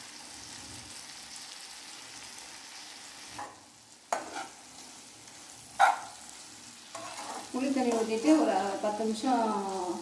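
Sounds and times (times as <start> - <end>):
slices frying in oil: 0.0 - 10.0.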